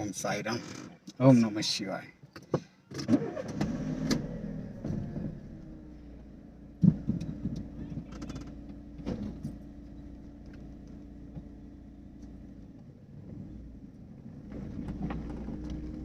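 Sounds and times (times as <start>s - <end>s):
car engine running: 3.0s - 16.0s.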